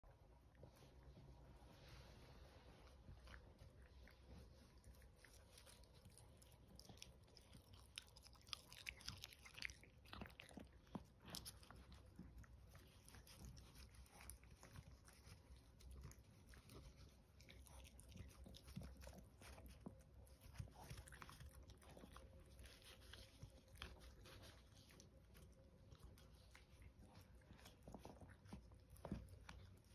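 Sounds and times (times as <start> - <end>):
puppy chewing and licking: 0.1 - 29.9.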